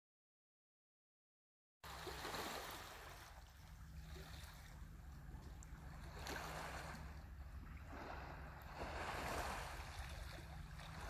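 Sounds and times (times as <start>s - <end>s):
low steady hum: 1.8s - 11.0s
waves lapping over rocks: 1.9s - 11.0s.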